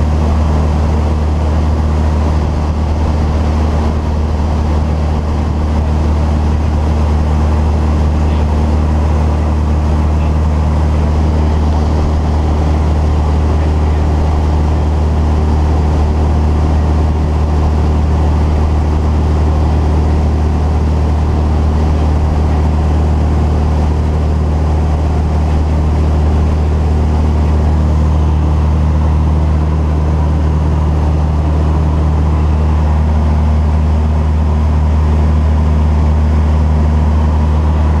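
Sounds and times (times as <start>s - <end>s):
aircraft engine droning: 0.0s - 38.0s.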